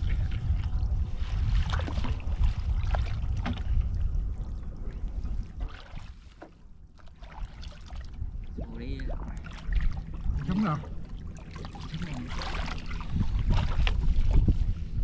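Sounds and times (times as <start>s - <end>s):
water splashing: 0.0s - 14.5s
boat engine rumble: 0.0s - 15.0s.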